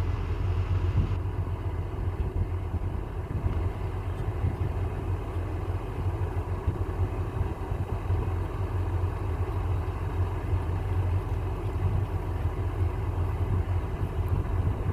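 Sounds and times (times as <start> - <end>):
engine humming steadily: 0.0 - 14.9.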